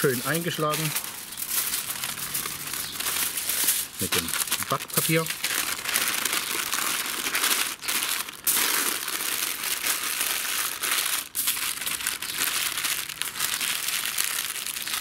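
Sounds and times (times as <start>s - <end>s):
baking paper crinkling: 0.0s - 15.0s.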